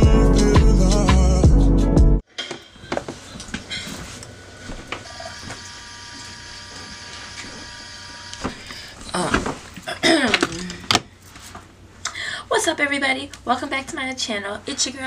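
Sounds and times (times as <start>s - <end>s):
steady whirring hum: 2.9s - 15.0s.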